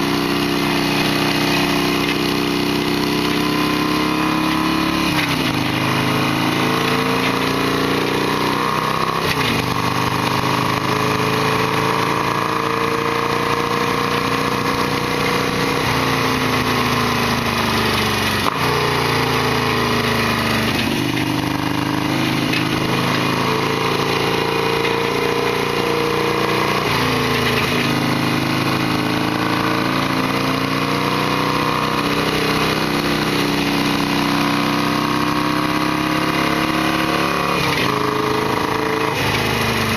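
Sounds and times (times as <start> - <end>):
motorcycle engine revving while ridden: 0.0 - 39.9.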